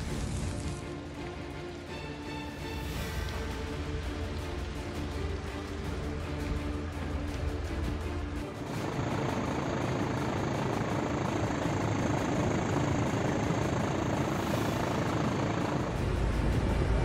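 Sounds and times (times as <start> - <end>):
helicopter rotor roar: 0.0 - 17.0.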